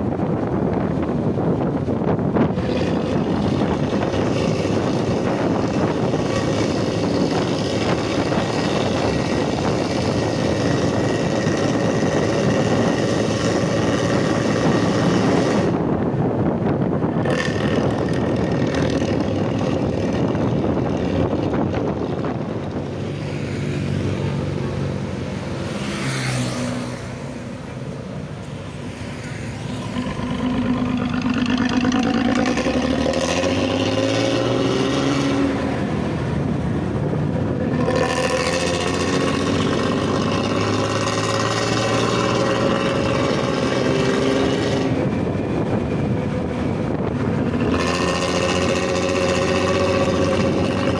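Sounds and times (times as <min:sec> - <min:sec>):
bus engine running: 0:00.0 - 0:25.6, 0:27.4 - 0:50.9.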